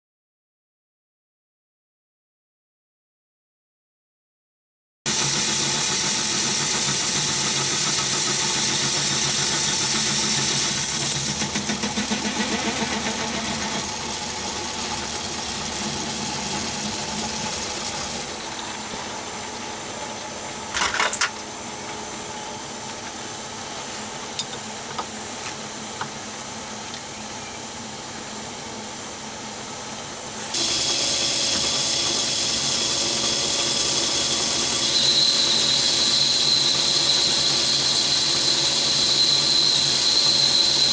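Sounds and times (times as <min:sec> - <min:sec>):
metal lathe whining: 0:05.1 - 0:40.9.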